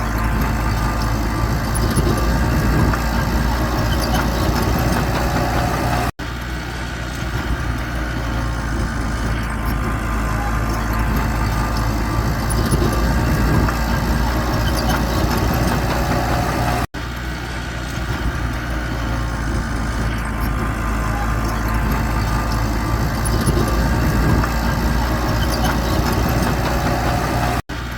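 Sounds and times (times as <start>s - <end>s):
diesel engine of heavy machinery: 0.0s - 27.9s.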